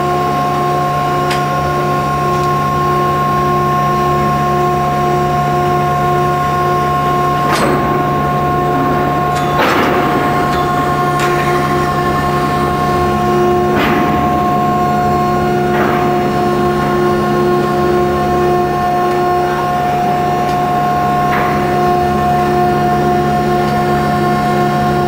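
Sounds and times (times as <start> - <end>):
railcar mover mechanical whine: 0.0 - 25.0.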